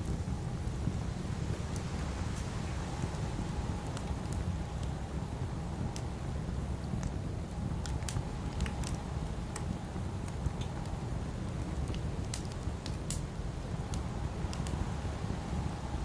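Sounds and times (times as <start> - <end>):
campfire crackling and popping: 0.0 - 15.9.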